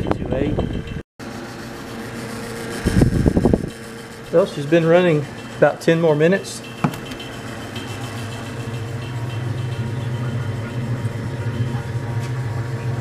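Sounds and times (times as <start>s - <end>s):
refrigerator compressor humming: 0.8s - 13.0s
refrigerant boiling: 1.2s - 13.0s.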